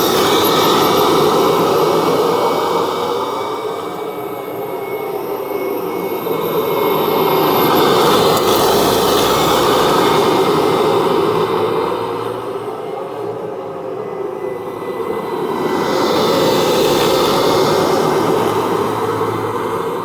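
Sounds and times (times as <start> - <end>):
vacuum cleaner motor whirring: 0.0 - 20.0.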